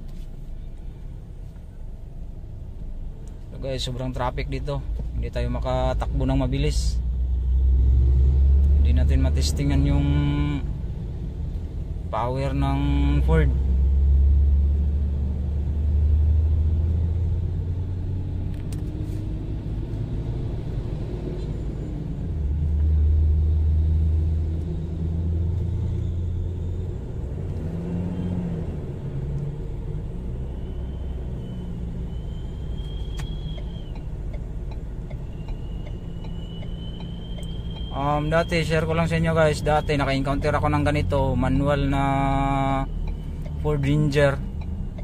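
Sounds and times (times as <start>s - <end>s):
diesel engine rumble in cabin: 0.0s - 45.0s.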